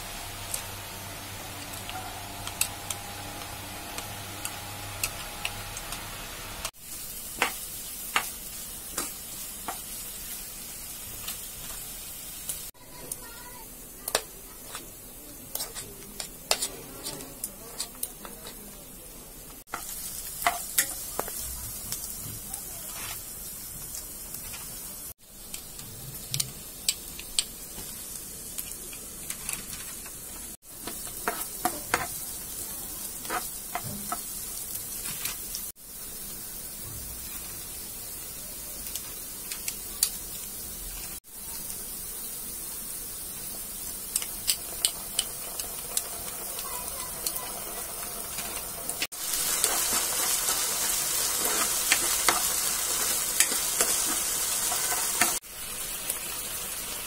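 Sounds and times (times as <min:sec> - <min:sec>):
onions sizzling in hot oil: 0:00.0 - 0:57.0.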